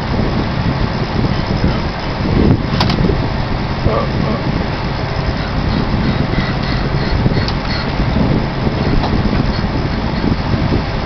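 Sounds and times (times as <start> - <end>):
heavy vehicle engine running: 0.0 - 11.0
loud rough rushing noise: 0.0 - 11.0.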